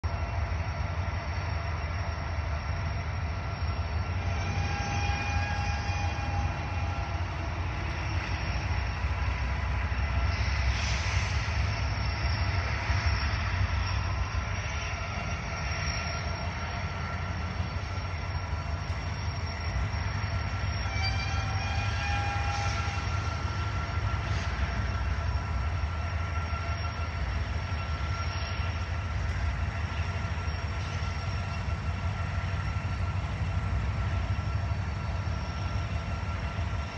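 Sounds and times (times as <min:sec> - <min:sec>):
freight train rumbling: 0:00.0 - 0:36.9.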